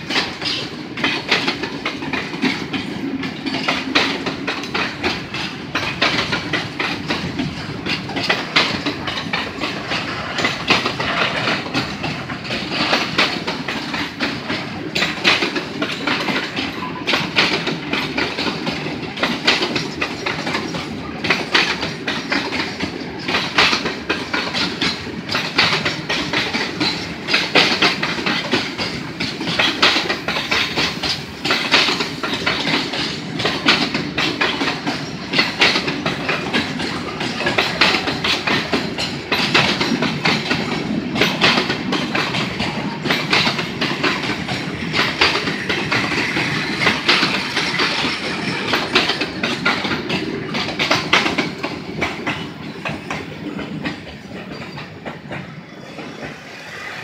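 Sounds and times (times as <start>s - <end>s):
freight train wheels rumbling: 0.0s - 57.0s
wheels clicking over rail joints: 0.0s - 57.0s.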